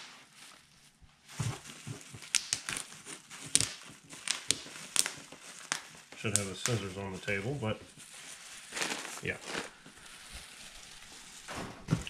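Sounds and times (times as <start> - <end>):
bubble wrap crackles: 0.0 - 12.0
bubble wrap crinkling: 0.0 - 12.0.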